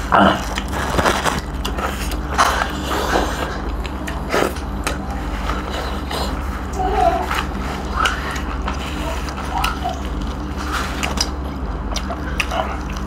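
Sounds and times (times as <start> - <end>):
steady low hum: 0.0 - 13.0
chewing and lip-smacking: 0.3 - 13.0.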